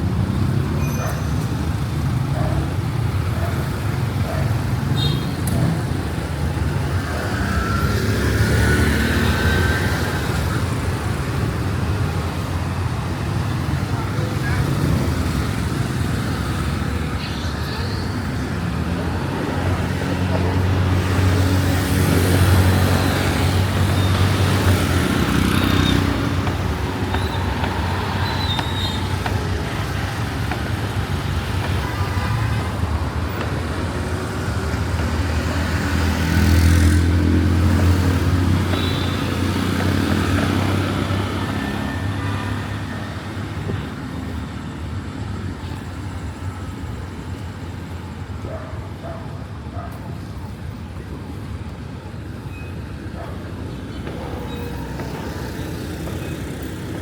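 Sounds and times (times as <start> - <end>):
street noise: 0.0 - 57.0
vehicles passing: 0.0 - 57.0.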